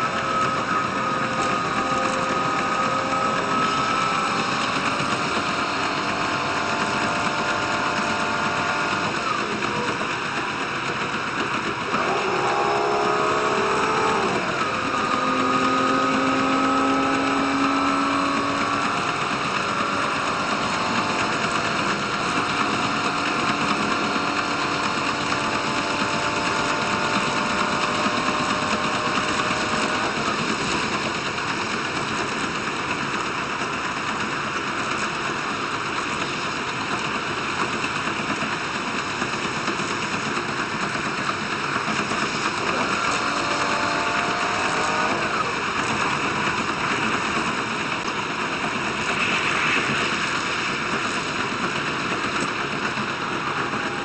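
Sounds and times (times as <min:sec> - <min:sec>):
diesel train rumbling on track: 0:00.0 - 0:54.0
whining engine and drive tones: 0:00.0 - 0:54.0.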